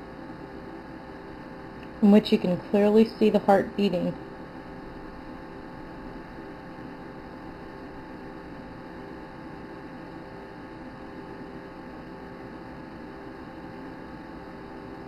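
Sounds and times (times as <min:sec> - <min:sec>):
electrical hum with fixed tones: 0:00.0 - 0:15.0.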